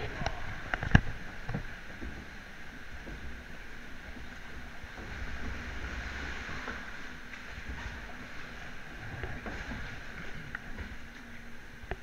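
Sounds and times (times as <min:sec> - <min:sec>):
water rushing around boat hull: 0:00.0 - 0:12.0.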